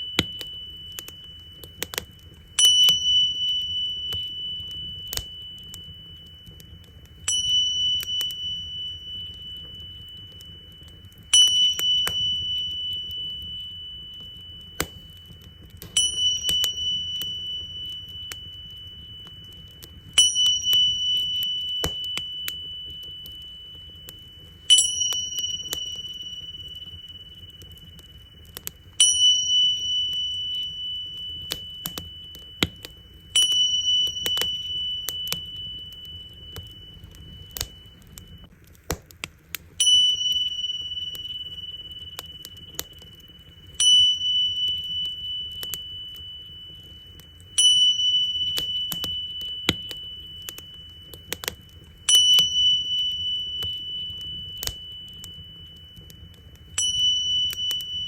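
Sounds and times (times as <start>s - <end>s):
tingsha cymbals ringing: 0.0s - 38.5s, 39.8s - 58.0s
wood fire crackling and popping: 0.0s - 58.0s.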